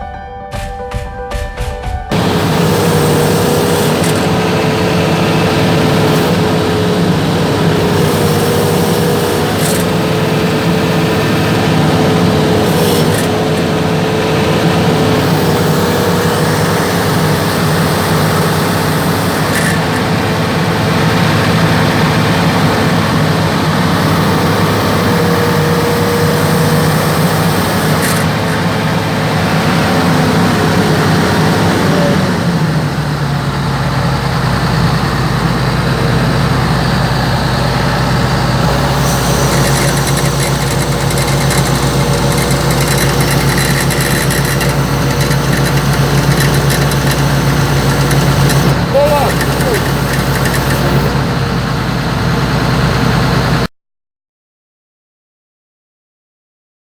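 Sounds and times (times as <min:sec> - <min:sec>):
excavator engine running: 0:00.8 - 0:53.7
hydraulic whine: 0:02.1 - 0:53.7.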